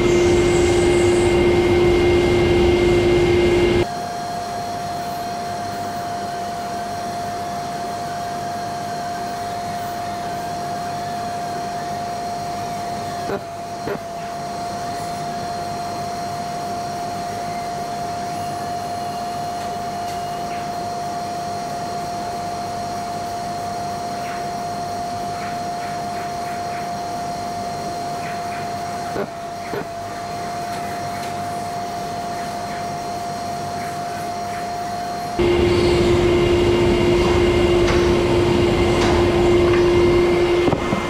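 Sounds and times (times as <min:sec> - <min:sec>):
vacuum whine: 0:00.0 - 0:41.0.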